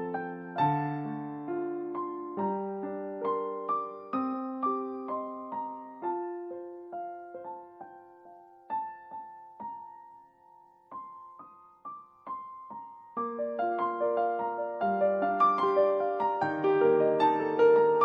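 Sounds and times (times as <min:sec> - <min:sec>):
soft piano music: 0:00.0 - 0:18.0.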